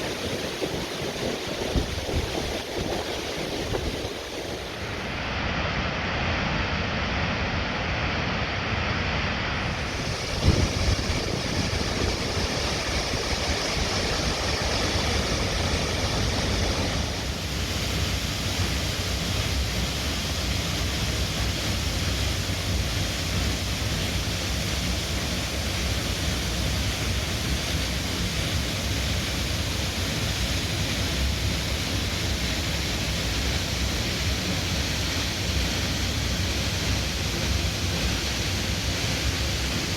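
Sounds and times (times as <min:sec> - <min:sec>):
waterfall rushing: 0:00.0 - 0:06.2, 0:09.5 - 0:39.9.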